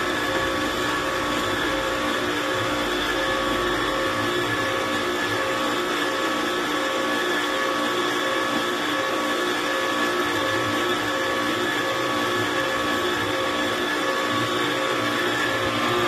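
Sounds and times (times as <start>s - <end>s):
pressure washer motor whine: 0.0s - 16.0s.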